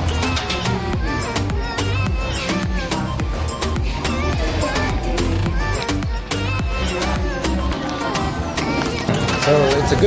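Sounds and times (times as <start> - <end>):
melodic vocal line: 0.0 - 10.0
music with steady beat: 0.0 - 10.0.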